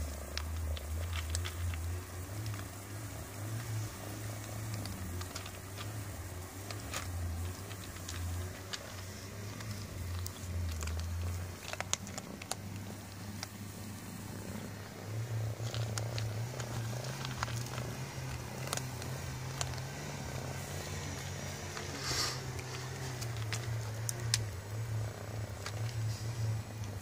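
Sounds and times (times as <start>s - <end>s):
cats eating from food bowl: 0.0s - 27.0s
cats purring: 0.0s - 27.0s.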